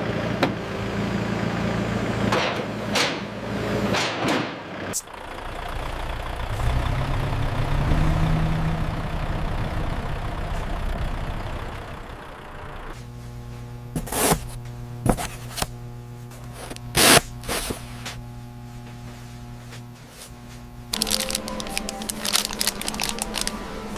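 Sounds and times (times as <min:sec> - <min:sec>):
machinery rumbling and humming: 0:00.0 - 0:23.9.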